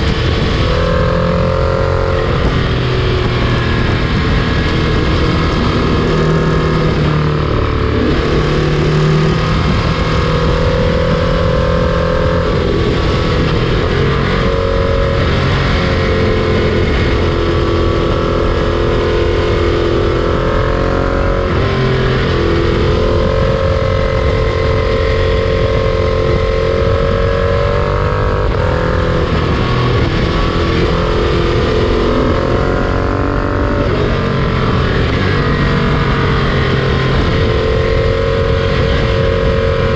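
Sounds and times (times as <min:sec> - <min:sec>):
sustained drifting tones: 0:00.0 - 0:39.9.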